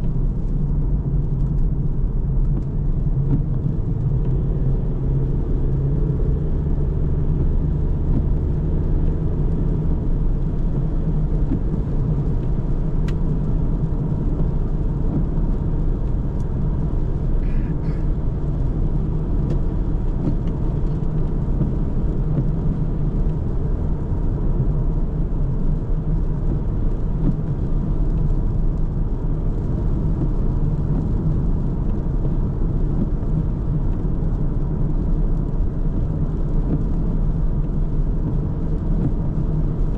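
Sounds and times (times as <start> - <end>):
car driving steadily: 0.0 - 39.9.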